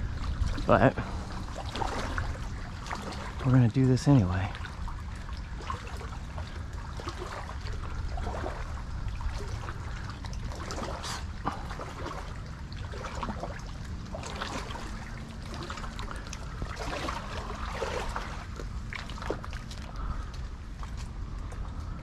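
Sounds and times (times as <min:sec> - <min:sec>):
water sloshing and trickling: 0:00.0 - 0:22.0
wind rumble on microphone: 0:00.0 - 0:22.0
small splashes and clicks: 0:00.2 - 0:22.0.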